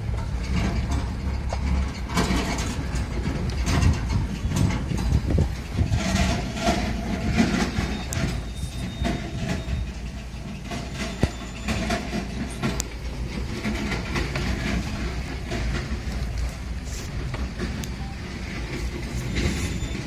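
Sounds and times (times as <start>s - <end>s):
car body rattling and knocking: 0.0s - 20.0s
low engine rumble: 0.0s - 20.0s.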